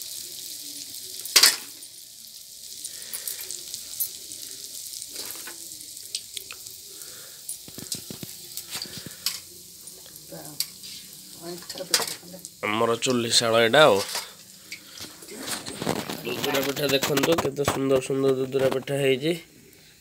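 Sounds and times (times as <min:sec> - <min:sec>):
batter sizzling in hot oil: 0:00.0 - 0:20.0.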